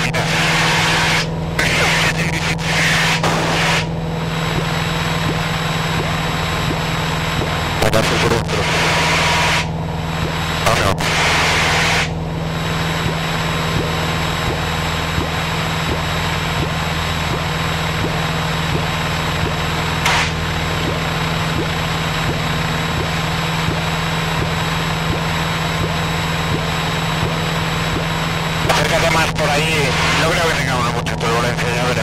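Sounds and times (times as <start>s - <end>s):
light aircraft engine droning: 0.0s - 32.0s.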